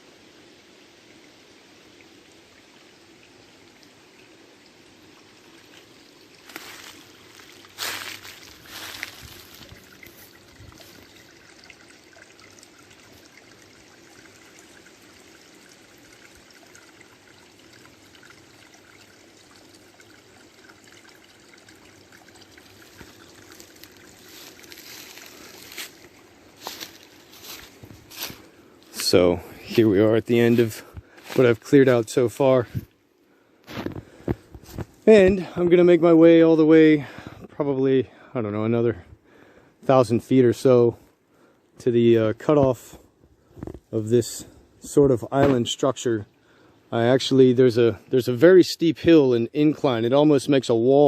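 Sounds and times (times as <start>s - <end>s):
creek trickling over rocks: 0.0s - 51.0s.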